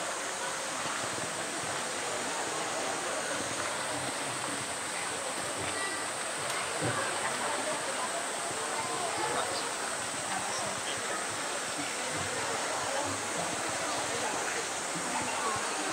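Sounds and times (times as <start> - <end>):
faint chatter: 0.0 - 15.9
running water: 0.0 - 15.9.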